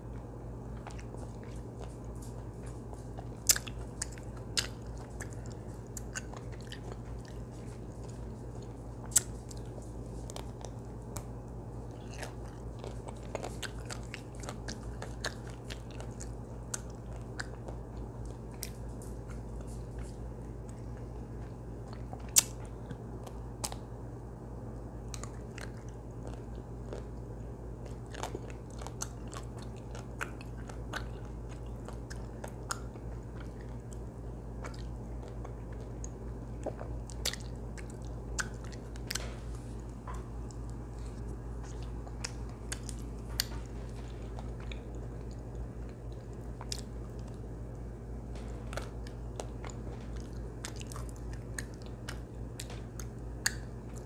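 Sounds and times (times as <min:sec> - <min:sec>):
biting and chewing: 0:00.0 - 0:24.1, 0:25.0 - 0:54.0
steady low hum: 0:00.0 - 0:54.0.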